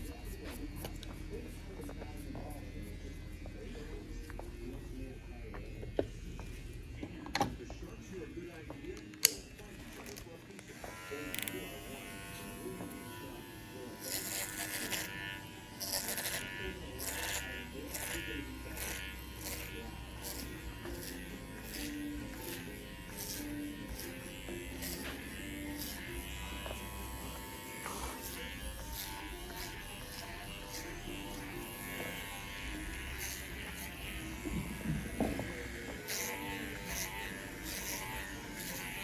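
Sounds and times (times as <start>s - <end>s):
electric hair clippers buzzing: 0.0s - 39.0s.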